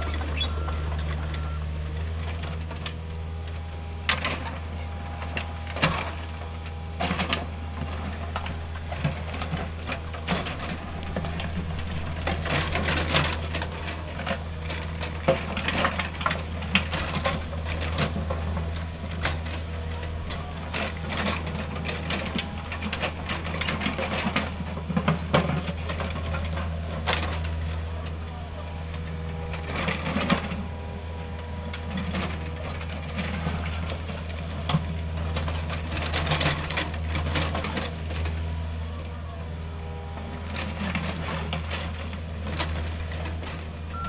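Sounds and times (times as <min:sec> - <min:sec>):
excavator engine running: 0:00.0 - 0:44.0.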